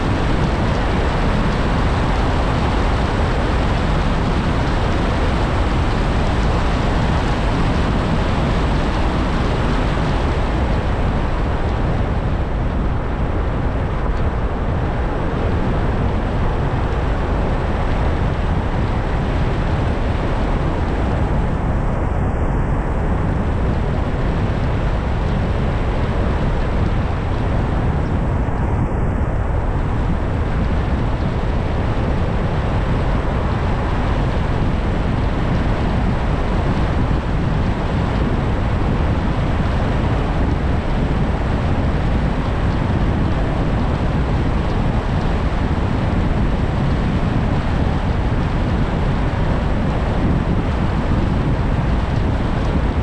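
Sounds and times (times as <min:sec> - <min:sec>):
car road and wind noise: 0:00.0 - 0:53.0.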